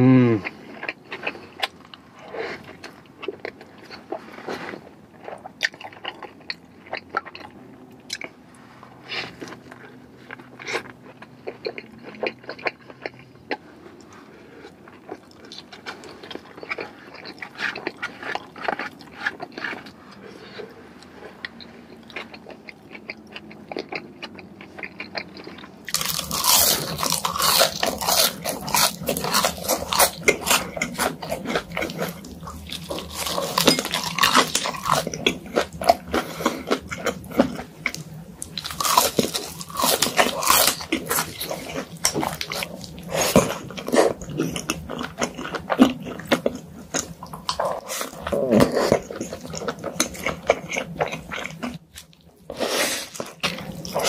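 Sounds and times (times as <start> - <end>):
crisp crunching of fried food: 0.4 - 8.5, 9.2 - 54.0
wet soft chewing: 0.4 - 54.0.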